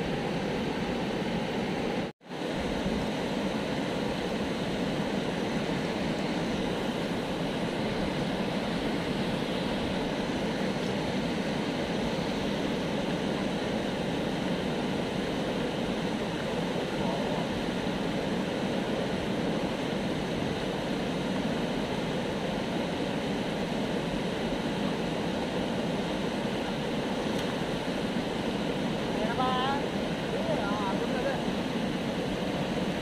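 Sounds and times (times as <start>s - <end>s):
water rushing over weir: 0.0s - 33.0s.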